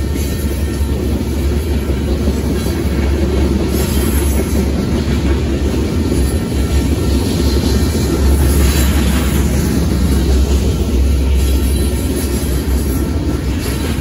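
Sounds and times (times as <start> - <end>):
freight train wheels rumbling on rails: 0.0 - 14.0.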